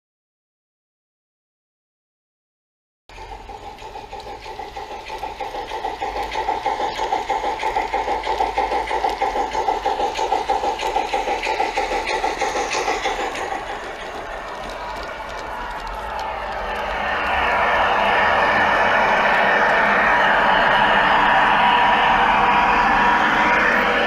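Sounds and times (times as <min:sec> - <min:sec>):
model train motor whirring: 0:03.1 - 0:24.0
wheels rattling on rail: 0:03.1 - 0:24.0.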